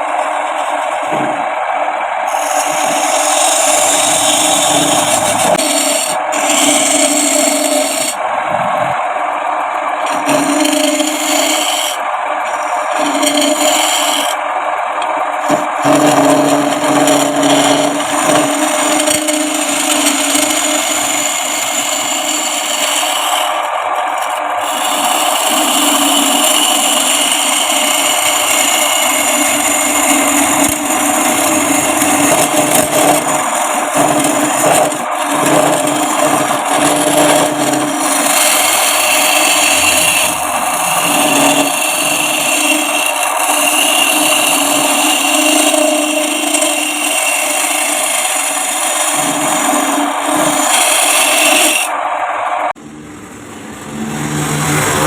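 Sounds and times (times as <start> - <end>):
tool scraping spinning wood: 0.0 - 52.8
wood lathe running: 0.0 - 52.8.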